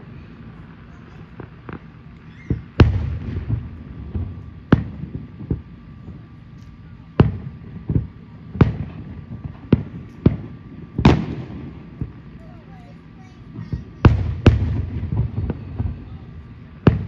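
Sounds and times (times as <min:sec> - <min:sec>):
low rumble after bangs: 0:01.4 - 0:12.3, 0:13.6 - 0:17.0.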